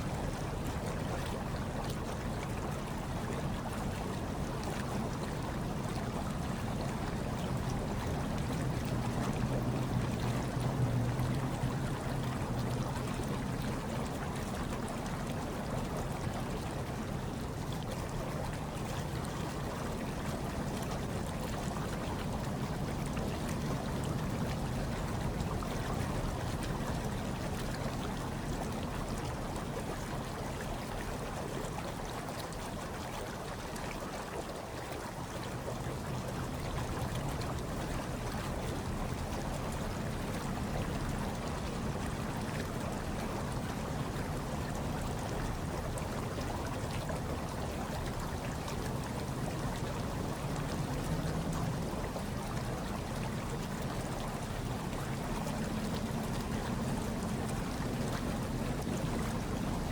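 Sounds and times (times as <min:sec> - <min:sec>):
hot tub water bubbling: 0:00.0 - 0:59.9.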